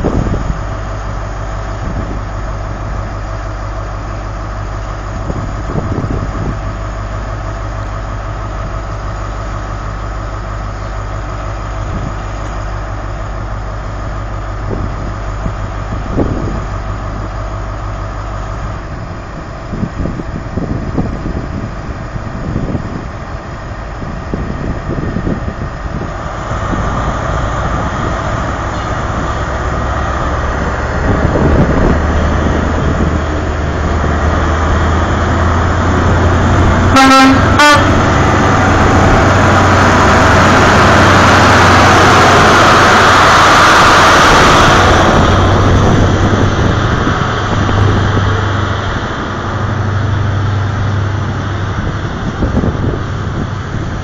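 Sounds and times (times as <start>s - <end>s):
diesel train engine: 0.0s - 54.0s.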